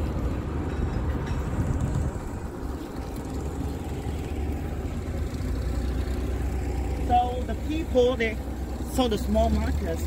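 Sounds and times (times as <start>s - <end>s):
motorboat engine running: 0.0s - 10.0s.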